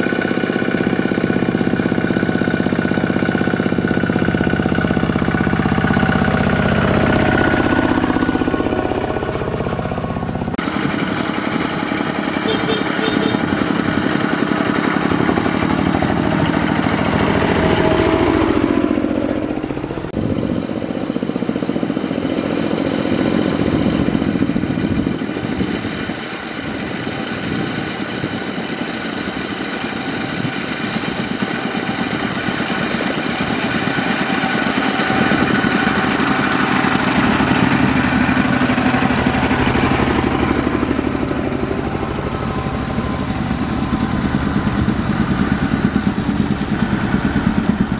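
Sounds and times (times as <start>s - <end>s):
diesel tractor engines chugging: 0.0s - 47.9s
trailer clatter: 0.0s - 47.9s.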